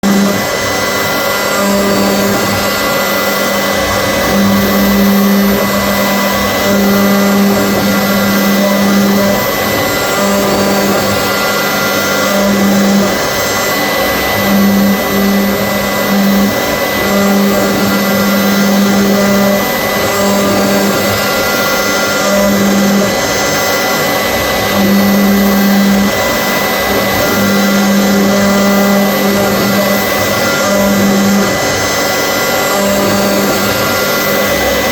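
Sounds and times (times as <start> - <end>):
low intermittent hum: 0.0 - 34.9
machine rush with high whine: 0.0 - 34.9.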